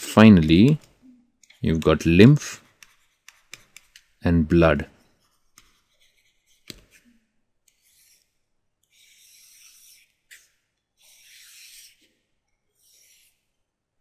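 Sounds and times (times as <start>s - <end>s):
stylus scratching surface: 1.5s - 13.6s.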